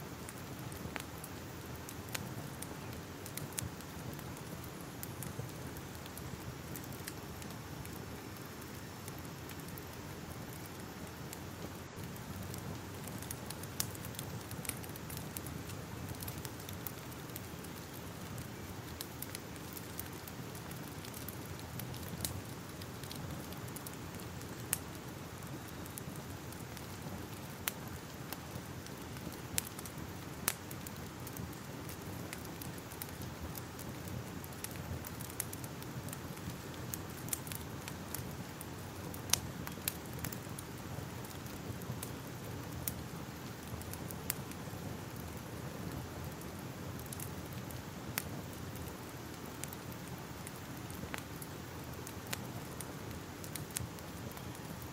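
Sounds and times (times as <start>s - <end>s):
fire crackling and popping: 0.0s - 54.9s
low rumble of burning: 0.0s - 54.9s.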